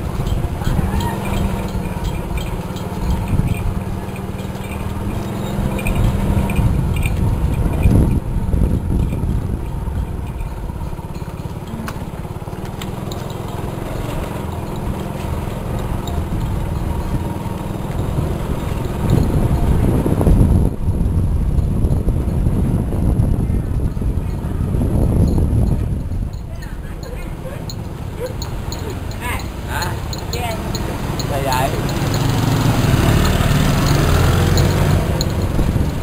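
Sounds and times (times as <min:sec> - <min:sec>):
small engine running: 0:00.0 - 0:20.5, 0:26.6 - 0:36.0.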